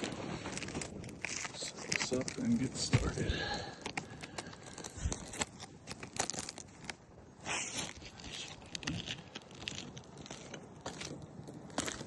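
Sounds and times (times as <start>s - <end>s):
roof shingles crackling and scraping: 0.0s - 12.0s
tearing rustle: 0.0s - 12.0s.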